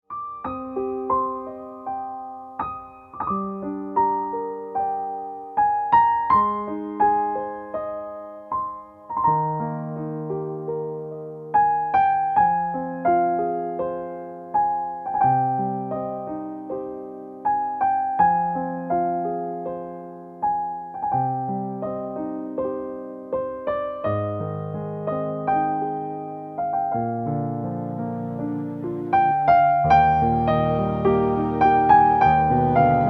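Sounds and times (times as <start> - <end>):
slow solo piano chords: 0.1 - 33.0.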